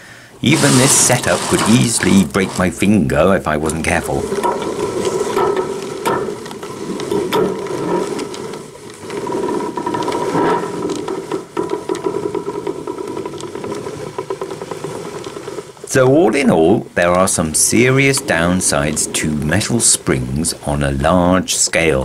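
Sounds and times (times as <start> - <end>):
rapid fine clicking: 0.0 - 22.0.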